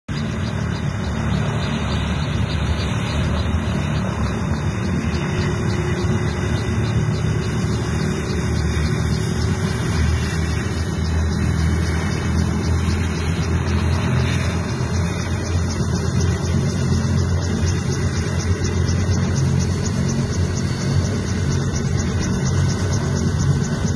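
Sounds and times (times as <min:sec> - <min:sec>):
helicopter turbine and rotor: 0:00.1 - 0:23.9.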